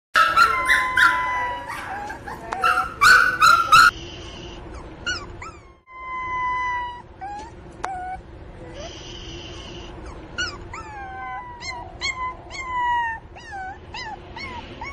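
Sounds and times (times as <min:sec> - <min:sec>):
puppy yelping and whining: 0:00.2 - 0:04.0, 0:04.7 - 0:08.9, 0:09.9 - 0:14.9.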